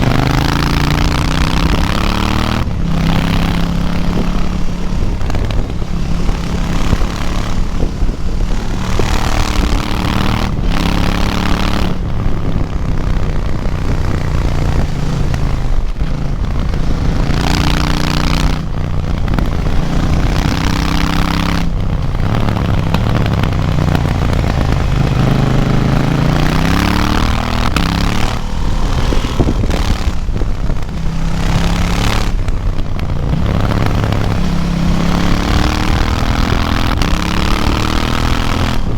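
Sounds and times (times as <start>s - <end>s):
motorcycle engine revving: 0.0s - 38.9s
wind rushing over microphone: 0.0s - 38.9s.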